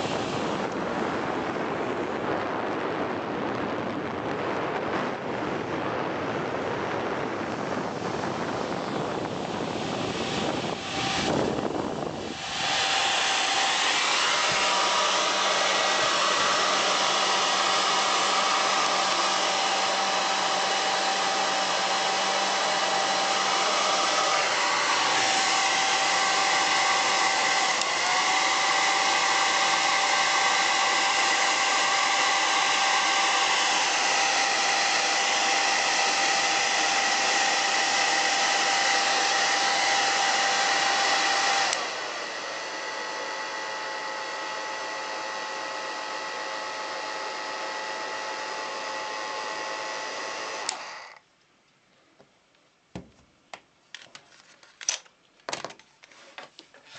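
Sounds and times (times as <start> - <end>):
hair dryer running: 0.0 - 3.0, 4.9 - 51.2.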